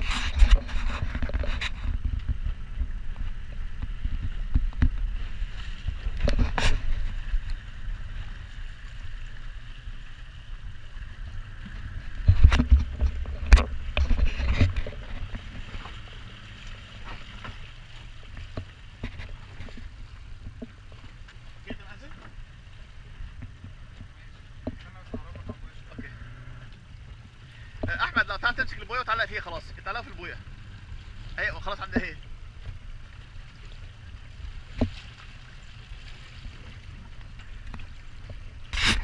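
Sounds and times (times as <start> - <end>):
wind and water rumble: 0.0 - 39.0.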